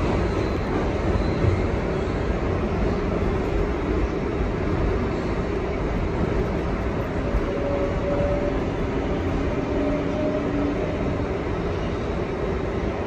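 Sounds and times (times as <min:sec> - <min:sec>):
subway car rumbling on track: 0:00.0 - 0:13.0.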